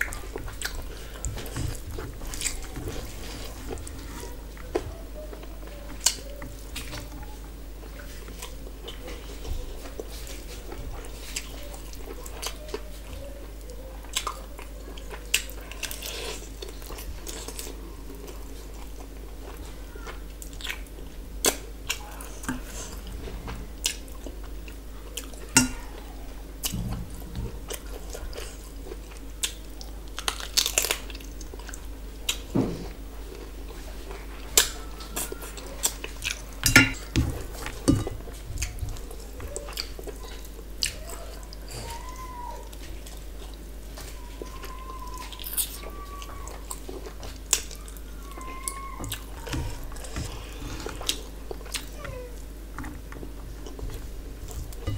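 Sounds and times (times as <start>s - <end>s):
chewing and crunching: 0.0s - 54.9s.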